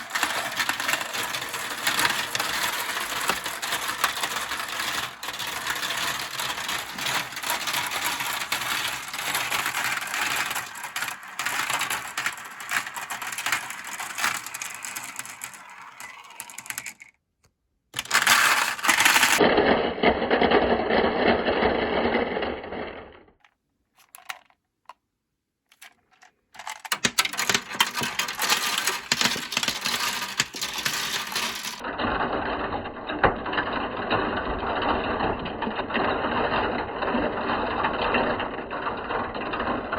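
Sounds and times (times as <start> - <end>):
marbles rolling and clattering: 0.0 - 17.1, 18.0 - 23.3, 24.0 - 24.6, 25.7 - 39.9.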